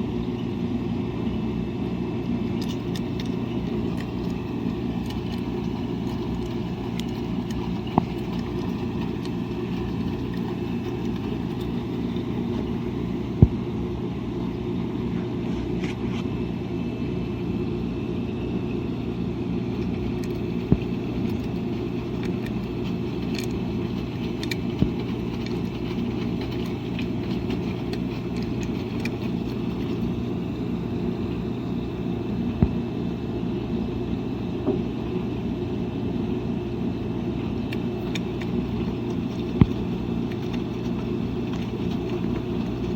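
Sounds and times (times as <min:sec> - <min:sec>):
washing machine humming: 0:00.0 - 0:42.9.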